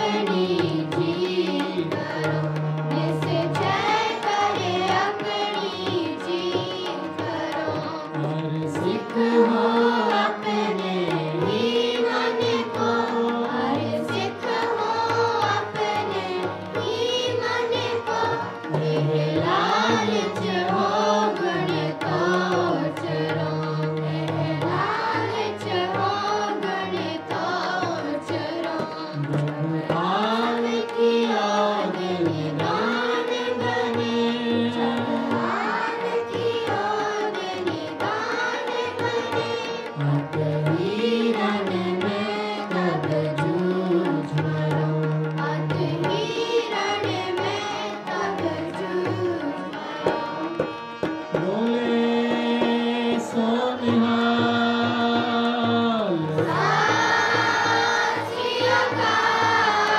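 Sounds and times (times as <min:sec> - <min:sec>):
harmonium: 0:00.0 - 0:59.9
man and children singing hymn: 0:00.0 - 0:59.9
tabla drumming: 0:00.0 - 0:59.9.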